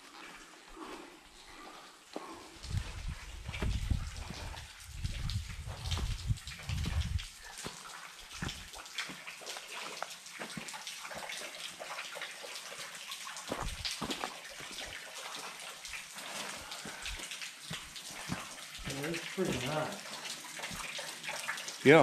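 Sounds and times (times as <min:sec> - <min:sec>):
running water hiss: 0:00.0 - 0:22.0
water dripping and splashing: 0:00.0 - 0:22.0.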